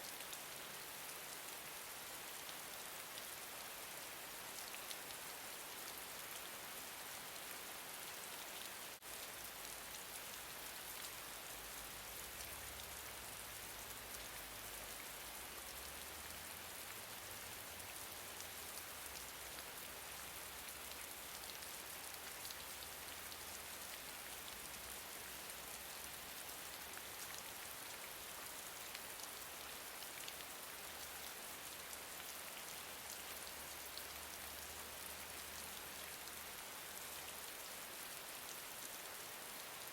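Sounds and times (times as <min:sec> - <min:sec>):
gentle steady rain: 0:00.0 - 0:39.9.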